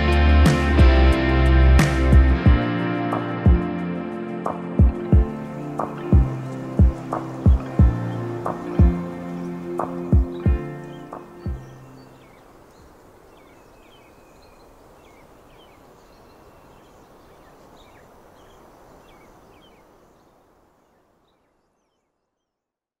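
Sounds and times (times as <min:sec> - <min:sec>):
steady outdoor noise: 0:00.0 - 0:22.4.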